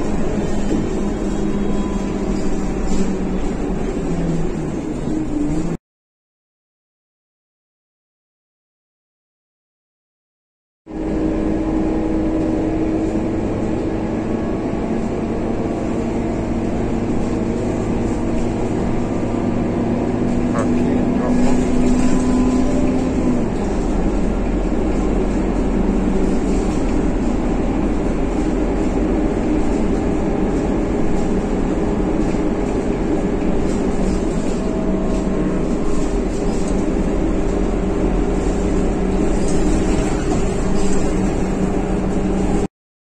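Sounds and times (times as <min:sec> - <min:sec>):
bus engine and road noise: 0:00.0 - 0:05.8, 0:10.9 - 0:42.7.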